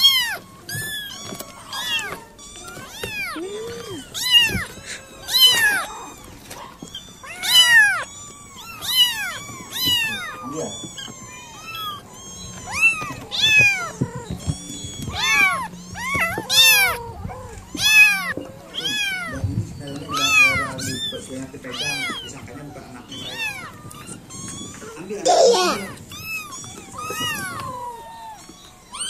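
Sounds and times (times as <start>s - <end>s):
kitten meowing: 0.0s - 29.0s.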